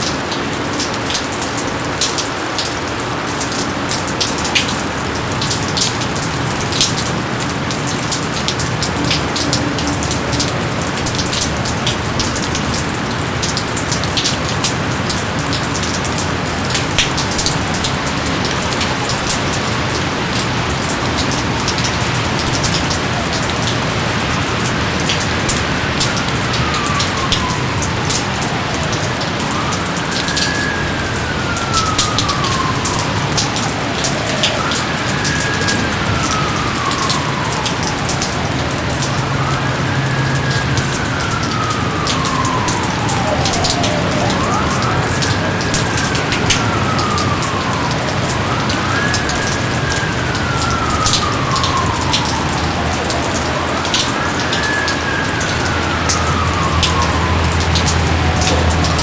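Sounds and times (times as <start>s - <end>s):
raindrop ticks: 0.0s - 59.0s
steady rain: 0.0s - 59.0s.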